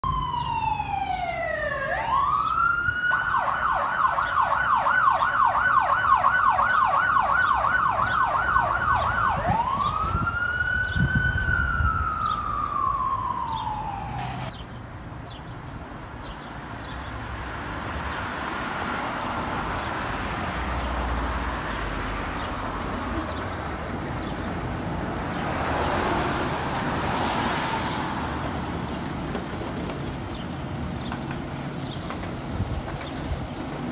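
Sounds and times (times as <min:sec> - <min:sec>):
street traffic noise: 0:00.0 - 0:33.9.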